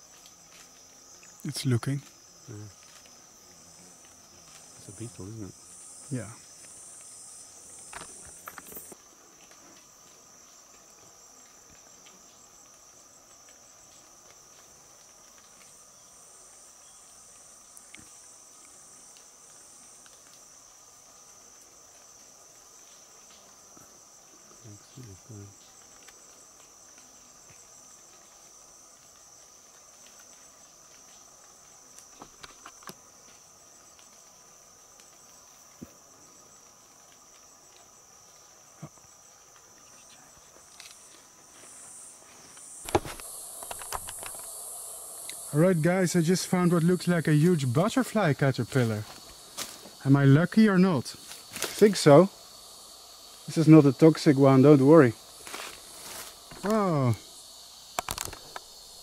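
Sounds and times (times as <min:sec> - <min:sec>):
insects trilling: 0:00.0 - 0:59.0
low insect drone: 0:00.0 - 0:59.0.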